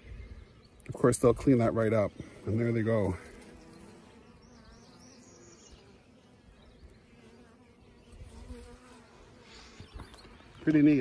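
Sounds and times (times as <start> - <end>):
bees buzzing: 1.5 - 11.0.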